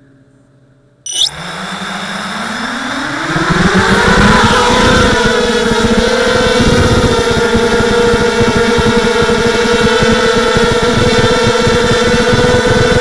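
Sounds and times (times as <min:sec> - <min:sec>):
drone propellers whining: 0:01.1 - 0:13.0.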